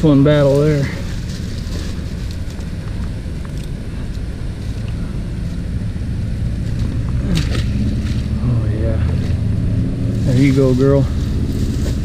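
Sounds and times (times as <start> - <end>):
dry reeds rustling: 0.0 - 12.0
low background rumble: 0.0 - 12.0.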